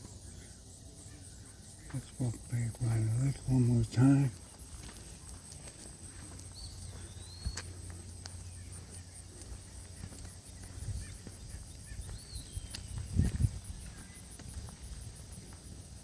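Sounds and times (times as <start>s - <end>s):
footsteps on trail: 1.1s - 16.0s.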